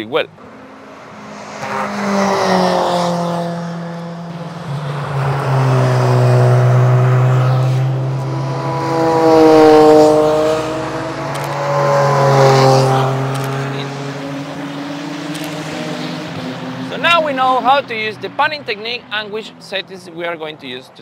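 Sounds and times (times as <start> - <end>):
race cars passing at speed: 0.0 - 20.9.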